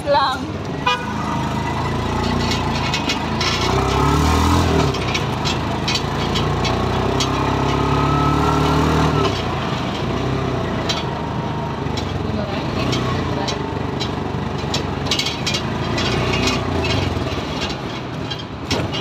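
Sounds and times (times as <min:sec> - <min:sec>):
street traffic noise: 0:00.0 - 0:19.0
motorcycle engine revving: 0:00.9 - 0:19.0
clicks and rattles: 0:01.5 - 0:19.0.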